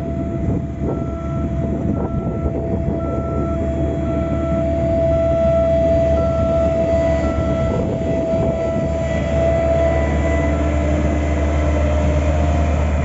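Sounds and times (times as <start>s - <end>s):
reversing alarm beeping: 0.0s - 11.2s
paving machine engine rumble: 0.0s - 13.0s.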